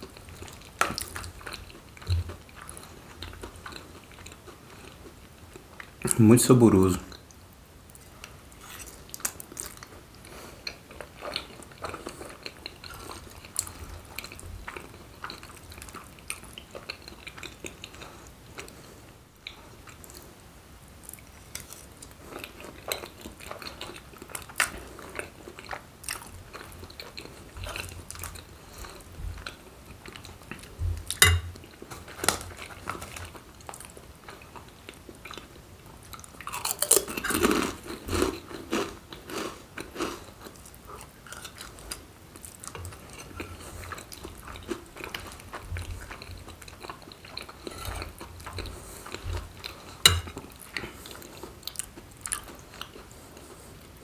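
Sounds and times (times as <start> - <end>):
person chewing food: 0.0 - 6.2, 7.1 - 20.4, 21.0 - 54.0.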